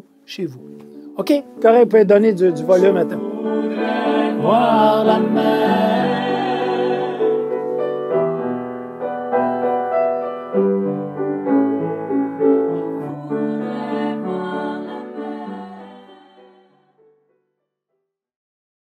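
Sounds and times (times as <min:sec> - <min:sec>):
slow piano music: 0:00.0 - 0:17.4.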